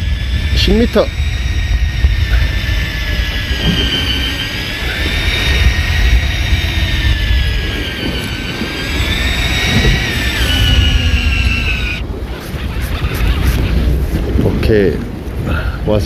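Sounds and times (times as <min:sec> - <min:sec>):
electric fishing reel motor whining: 0:00.0 - 0:13.9
low rumble: 0:00.0 - 0:15.8.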